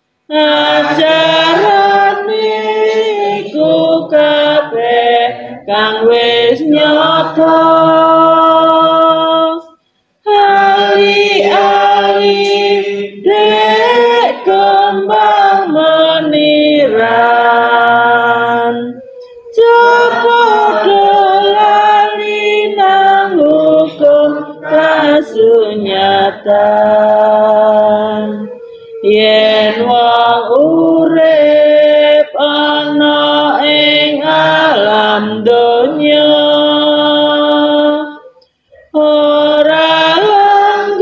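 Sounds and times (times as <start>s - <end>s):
group singing in unison: 0.2s - 41.0s
woman singing into a microphone: 0.3s - 41.0s.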